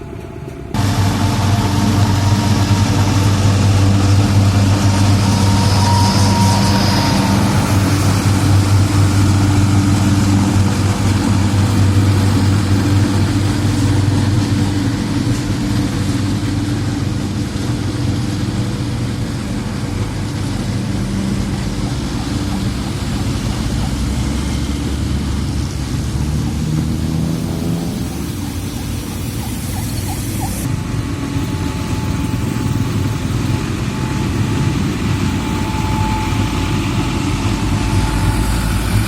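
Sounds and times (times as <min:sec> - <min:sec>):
heavy diesel engines droning: 0:00.0 - 0:39.0.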